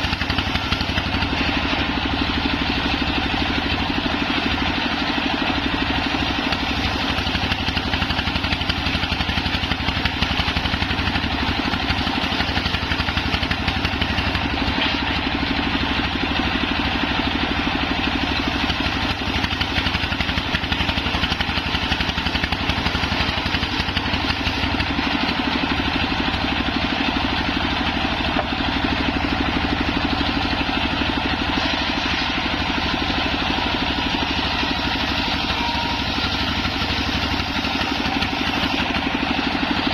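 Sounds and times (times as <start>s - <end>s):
circular saw engine running: 0.0s - 39.9s.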